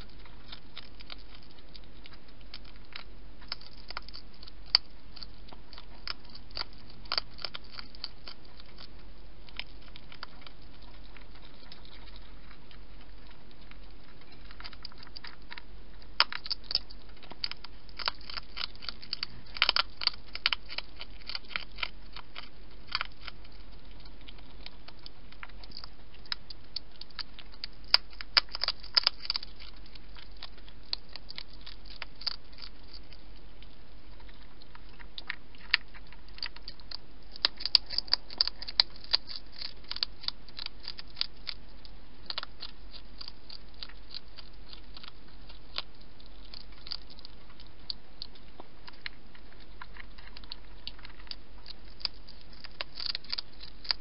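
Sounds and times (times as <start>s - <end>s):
hedgehog chewing: 0.0s - 54.0s.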